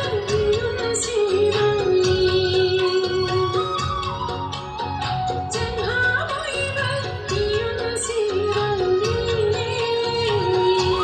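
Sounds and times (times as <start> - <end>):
folk dance music over loudspeaker: 0.0 - 11.0.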